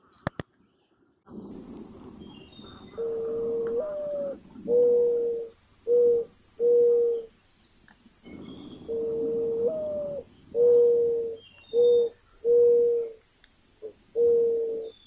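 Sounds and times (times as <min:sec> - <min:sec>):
mourning dove cooing: 0:01.3 - 0:07.4, 0:08.2 - 0:13.2, 0:13.8 - 0:15.0.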